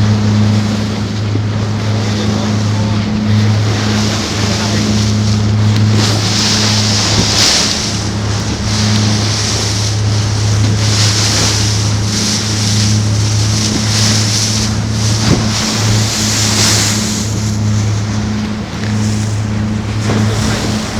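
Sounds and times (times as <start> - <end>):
motorboat engine running: 0.0 - 20.9
water rushing past hull: 0.0 - 20.9
wind on microphone: 0.0 - 20.9.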